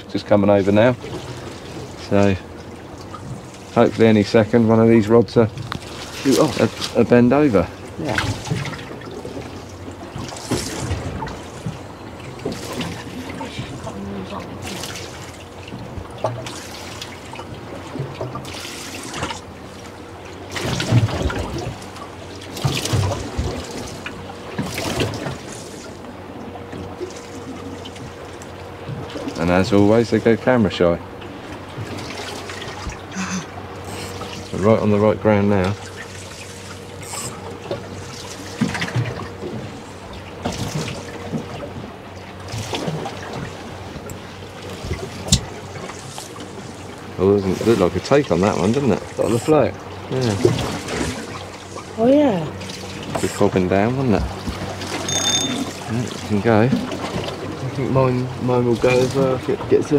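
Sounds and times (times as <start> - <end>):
water slapping against boat hull: 0.0 - 59.9.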